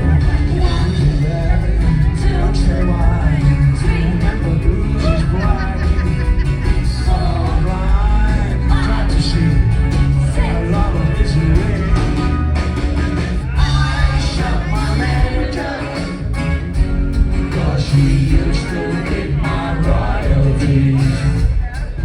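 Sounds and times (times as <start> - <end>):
lead vocal singing: 0.0 - 12.6, 13.4 - 22.0
live rock band playing: 0.0 - 22.0.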